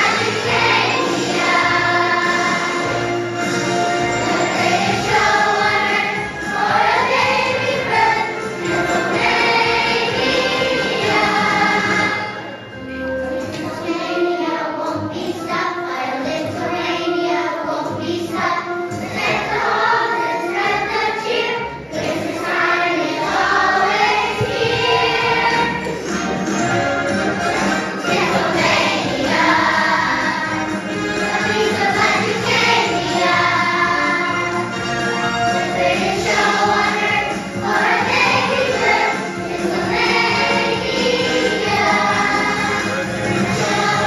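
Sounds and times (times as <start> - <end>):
children's choir singing: 0.0 - 44.0
instrumental accompaniment: 0.0 - 44.0.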